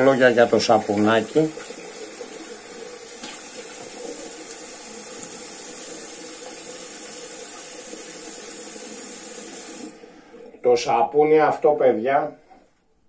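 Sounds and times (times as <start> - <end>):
tap water running into sink: 0.0 - 10.6.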